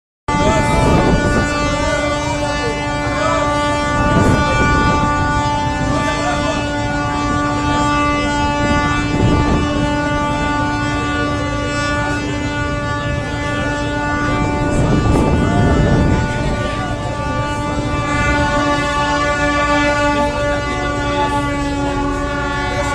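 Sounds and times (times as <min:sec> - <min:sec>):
people's voices: 0:00.3 - 0:22.9
ships' horns long blast: 0:00.3 - 0:22.9.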